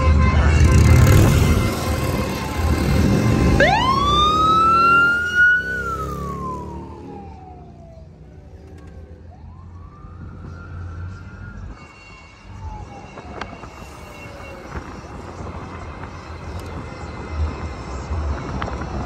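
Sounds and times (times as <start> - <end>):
emergency vehicle siren: 0.0 - 19.0
road and wind noise: 0.0 - 19.0.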